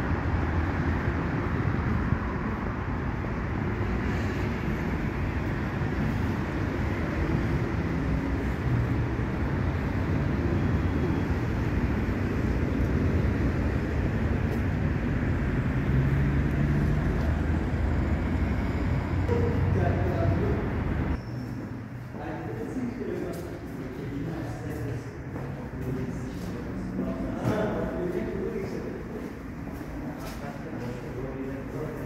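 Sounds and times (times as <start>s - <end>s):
low rumble of road traffic: 0.0s - 32.0s
vehicle engines humming: 0.0s - 32.0s.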